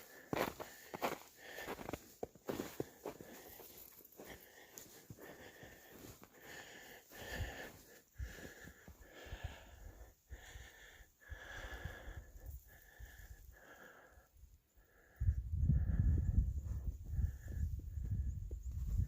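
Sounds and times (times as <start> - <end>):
person breathing heavily: 0.0 - 18.3.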